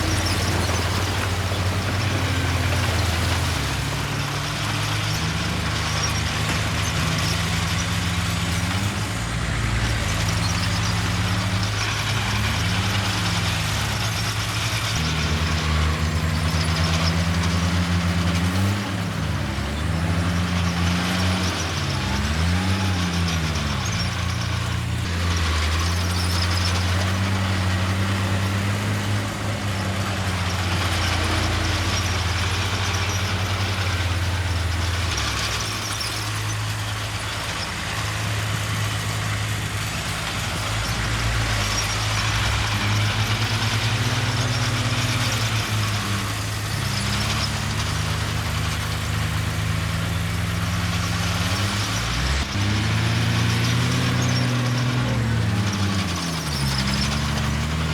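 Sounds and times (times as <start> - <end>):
bulldozer diesel engine under load: 0.0 - 57.9.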